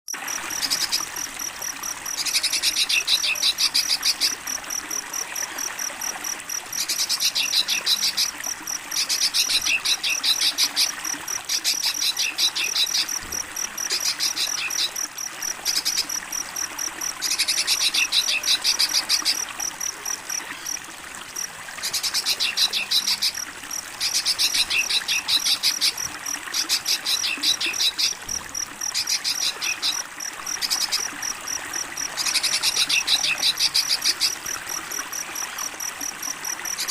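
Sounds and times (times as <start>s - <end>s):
cricket chirping: 0.1s - 36.9s
trickle of running water: 0.1s - 36.9s.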